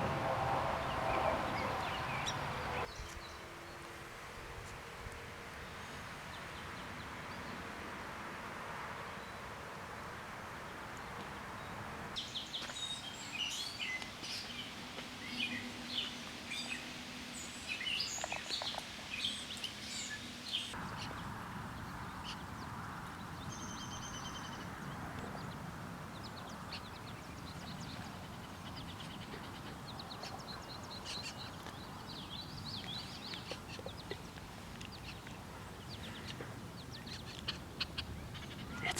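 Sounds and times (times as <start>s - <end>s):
birds chirping: 0.0s - 3.5s, 11.0s - 38.9s.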